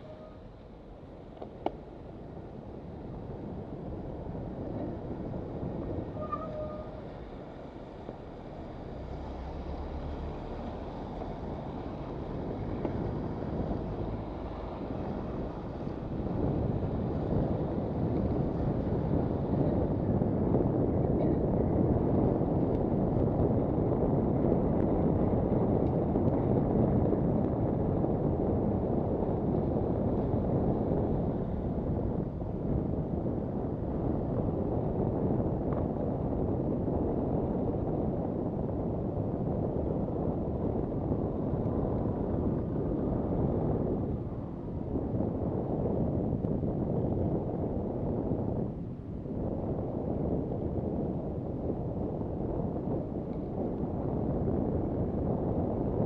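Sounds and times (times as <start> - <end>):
road noise rumble: 0.0 - 56.0
wind rushing over microphone: 0.0 - 56.0.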